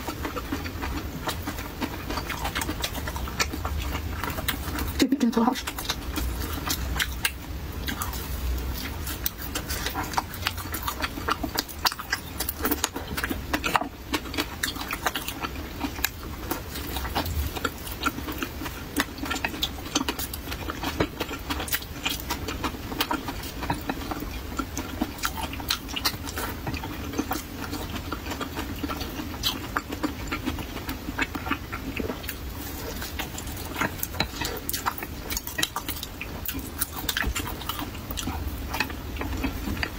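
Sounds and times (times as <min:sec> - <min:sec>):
person chewing with lip smacks: 0:00.0 - 0:39.9.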